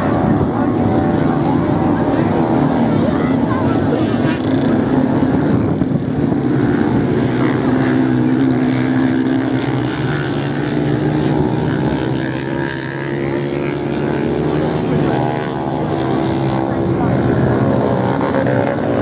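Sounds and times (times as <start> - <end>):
motorcycle engines racing: 0.0 - 19.0.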